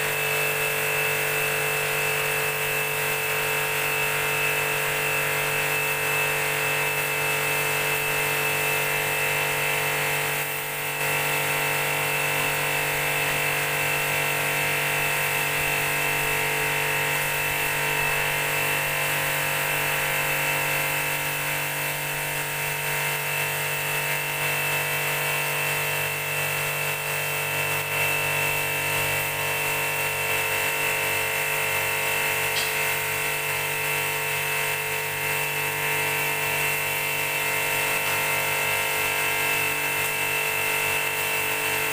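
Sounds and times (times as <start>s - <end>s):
sprayer pump whining: 0.0s - 41.9s
water jet hissing on concrete: 0.0s - 41.9s.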